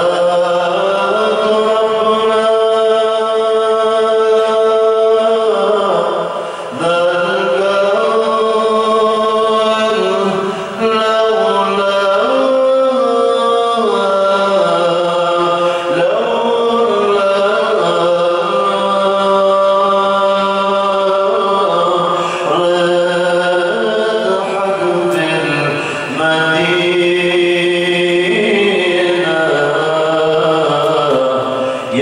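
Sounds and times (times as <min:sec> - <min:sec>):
man singing into a microphone: 0:00.0 - 0:32.0.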